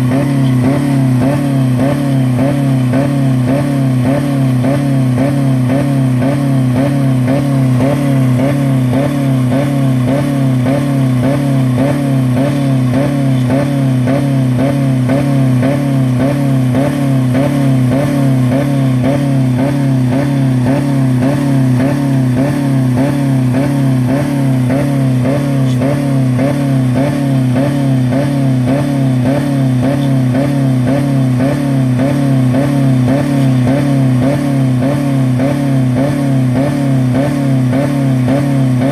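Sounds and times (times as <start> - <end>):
car engine revving at limiter: 0.0 - 38.9.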